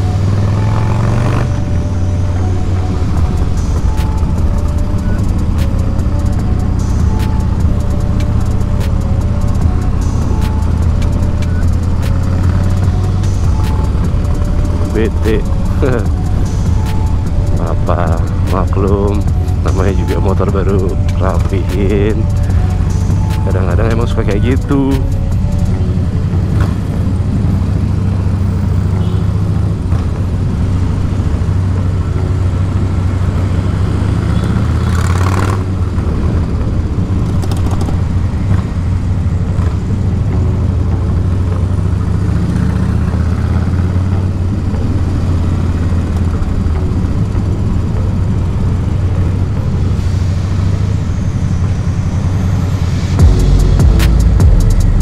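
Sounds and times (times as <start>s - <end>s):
motorcycle engine running: 0.0s - 51.9s, 52.6s - 55.0s.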